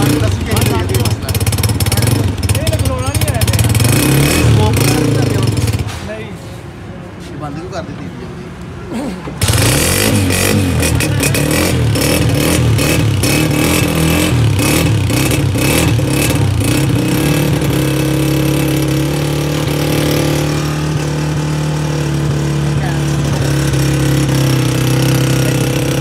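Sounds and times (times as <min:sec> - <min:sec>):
motorcycle engine starting and idling: 0:00.0 - 0:06.1, 0:09.4 - 0:26.0.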